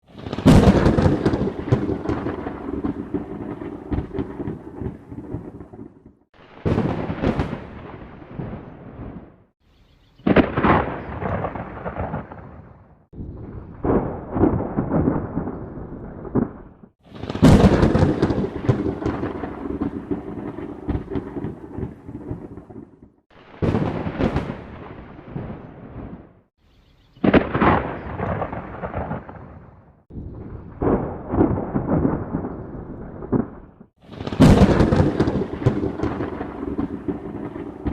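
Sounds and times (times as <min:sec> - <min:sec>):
thunder crack and rumble: 0:00.0 - 0:09.5, 0:10.2 - 0:26.4, 0:27.2 - 0:37.9.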